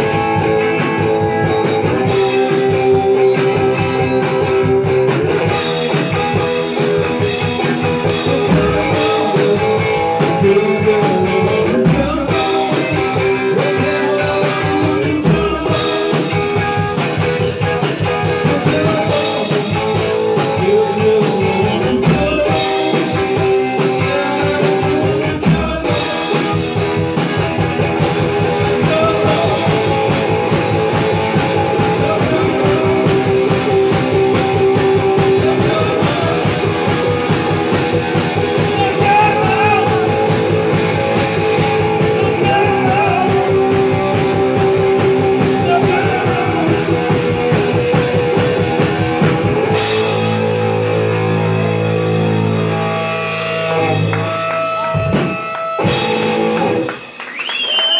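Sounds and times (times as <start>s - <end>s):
drum kit: 0.0s - 57.9s
electric guitar: 0.0s - 57.9s.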